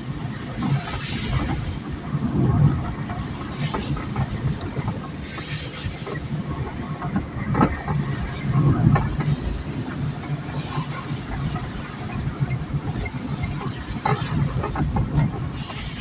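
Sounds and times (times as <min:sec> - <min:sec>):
vehicle rumbling: 0:00.0 - 0:16.0.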